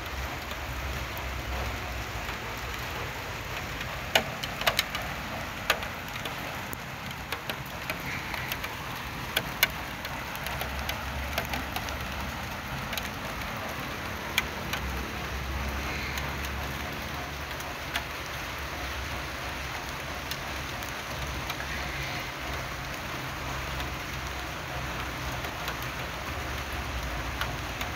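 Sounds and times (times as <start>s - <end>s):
rain falling on leaves: 0.0s - 27.9s
sharp water drips: 0.0s - 27.9s.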